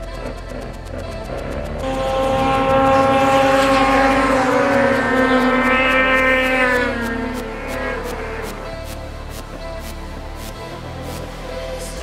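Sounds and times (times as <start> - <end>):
snowmobile engine at high revs: 0.0 - 11.3.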